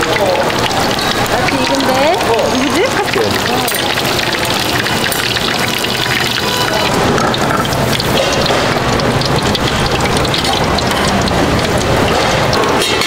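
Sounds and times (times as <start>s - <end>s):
hot oil sizzling in deep fryer: 0.0s - 13.0s.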